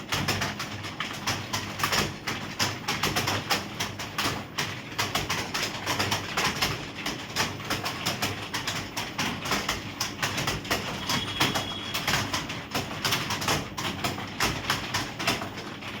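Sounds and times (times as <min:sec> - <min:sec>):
computer keyboard keys clicking: 0:00.1 - 0:15.6.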